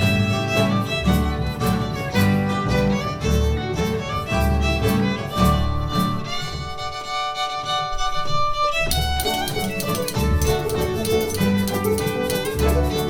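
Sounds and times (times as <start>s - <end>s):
fiddle playing lively tune: 0.0s - 13.0s
strummed rhythm: 0.0s - 13.0s.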